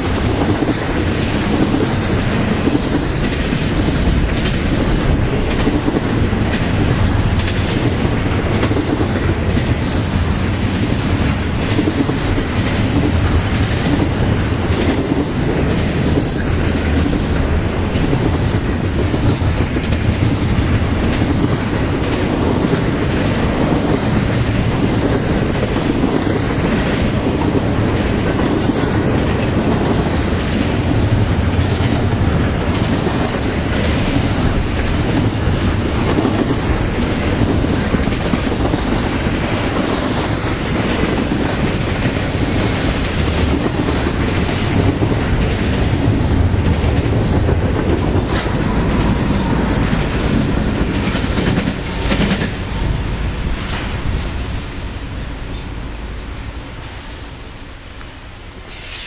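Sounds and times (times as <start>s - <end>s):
wheels clacking over rail joints: 0.0s - 57.3s
diesel locomotives passing: 0.0s - 59.0s
freight train rumbling past: 0.0s - 59.0s.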